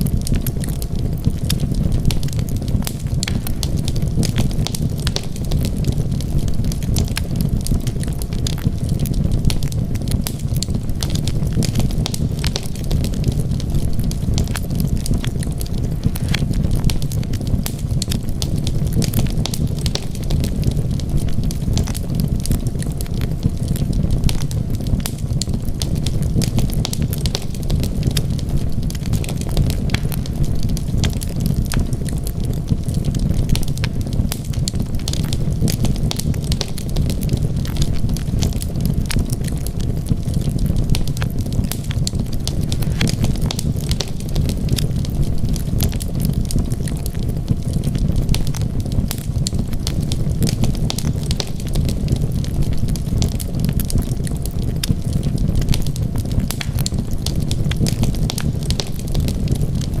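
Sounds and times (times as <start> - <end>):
low rumble of flames: 0.0 - 60.0
wood fire crackling and popping: 0.0 - 60.0.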